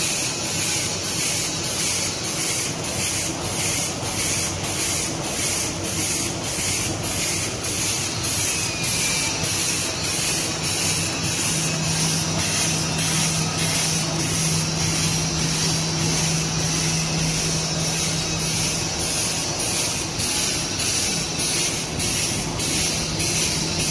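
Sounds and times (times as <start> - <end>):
packing machine pulsing hiss: 0.0 - 23.9.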